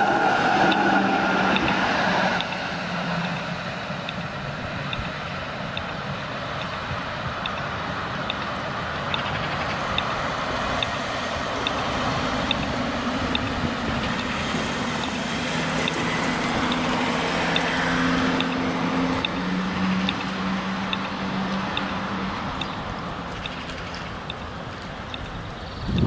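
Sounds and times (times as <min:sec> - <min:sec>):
road traffic noise: 0:00.0 - 0:26.0
tram drive humming: 0:00.0 - 0:26.0
faint ticking: 0:02.4 - 0:19.4, 0:20.0 - 0:26.0.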